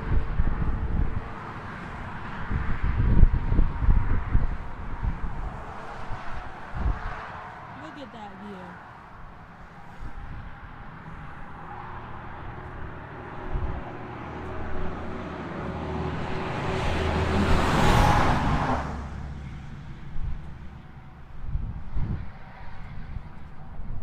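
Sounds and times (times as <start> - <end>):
vehicle passing on highway: 0.0 - 24.0.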